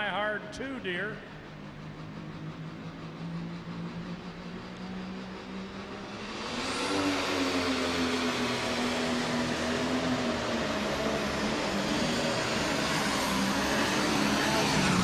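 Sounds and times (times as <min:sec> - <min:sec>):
diesel tractor engine at full power: 0:00.0 - 0:15.0.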